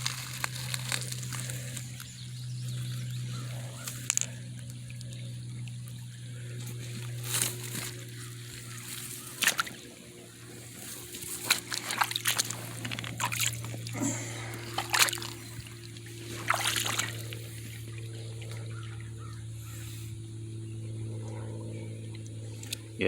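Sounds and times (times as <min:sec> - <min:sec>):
creek water splashing: 0:00.0 - 0:20.5
steady low hum: 0:00.0 - 0:23.0.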